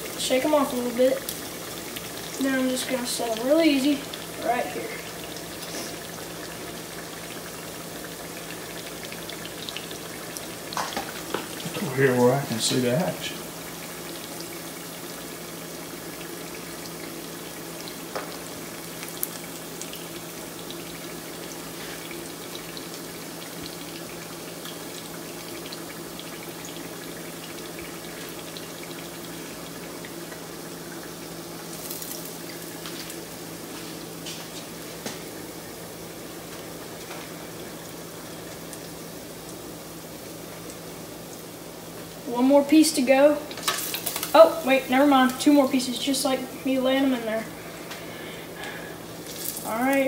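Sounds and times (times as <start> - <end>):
fish deep-frying in hot oil: 0.0 - 50.0.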